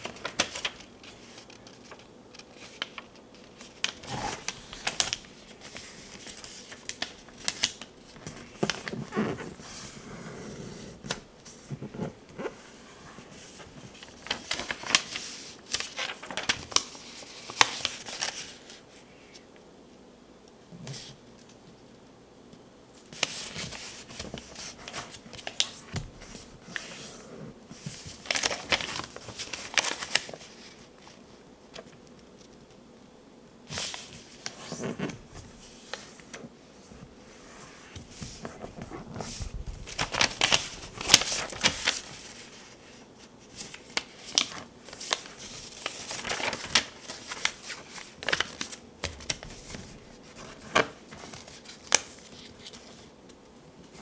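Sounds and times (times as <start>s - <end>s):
paper folding and creasing: 0.0s - 18.8s, 23.1s - 32.5s, 33.7s - 53.1s.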